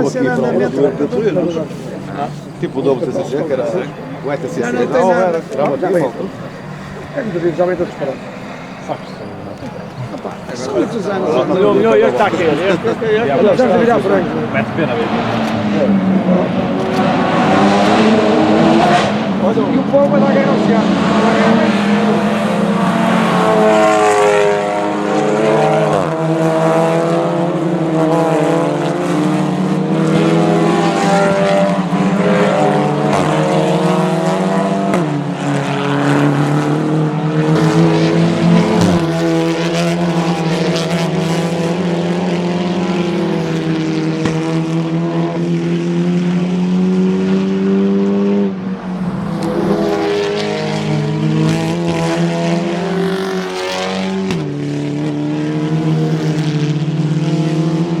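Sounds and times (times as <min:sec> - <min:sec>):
racing car engines revving: 0:00.0 - 0:58.0.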